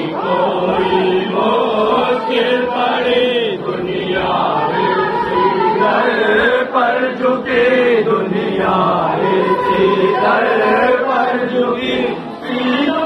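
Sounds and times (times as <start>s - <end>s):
voices chanting devotional refrain: 0.0s - 13.0s.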